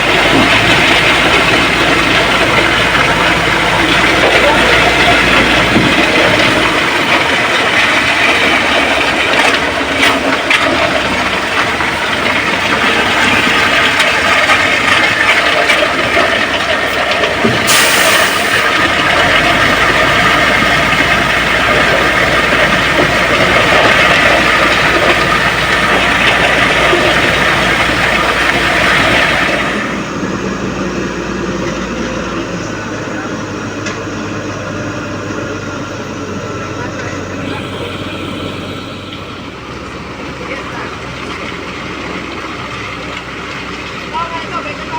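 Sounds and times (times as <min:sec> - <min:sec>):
construction machinery engine running: 0:00.0 - 0:44.9.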